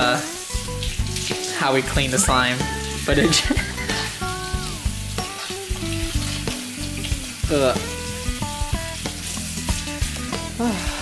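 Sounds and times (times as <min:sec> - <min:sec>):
background music: 0:00.0 - 0:11.0
faucet running: 0:00.0 - 0:11.0
hands rinsed under water: 0:00.0 - 0:11.0.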